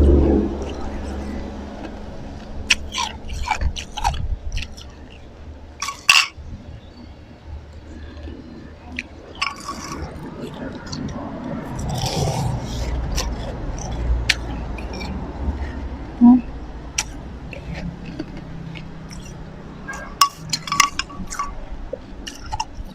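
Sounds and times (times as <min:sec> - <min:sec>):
chewing ice: 0:00.1 - 0:06.4, 0:07.7 - 0:16.2, 0:16.8 - 0:22.9
ice crunching between teeth: 0:00.1 - 0:06.4, 0:08.0 - 0:15.8, 0:17.0 - 0:21.6.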